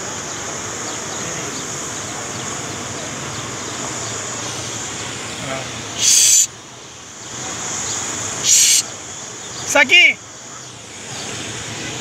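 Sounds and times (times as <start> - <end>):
high hiss: 0.0 - 10.2.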